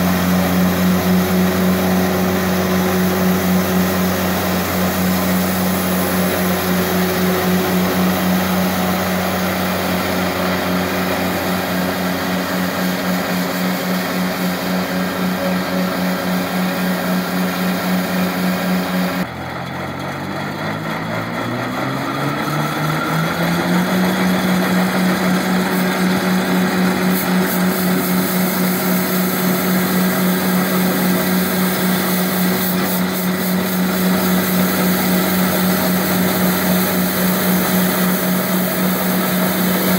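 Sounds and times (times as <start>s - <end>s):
diesel engine running high throttle: 0.0s - 39.9s.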